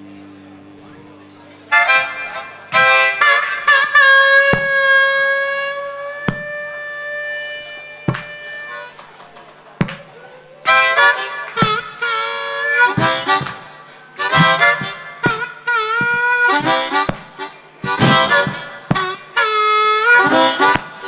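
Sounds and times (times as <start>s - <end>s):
harmonica playing: 1.3s - 9.2s, 10.5s - 21.0s.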